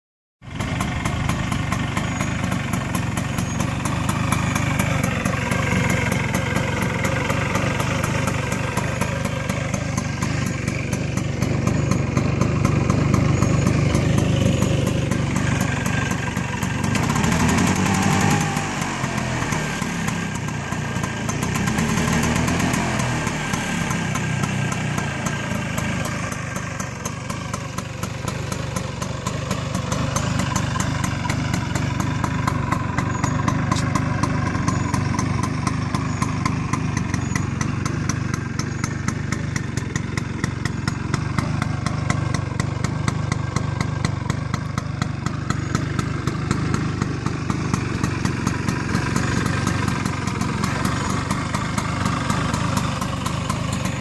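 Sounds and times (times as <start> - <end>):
scooter engine idling: 0.4 - 54.0.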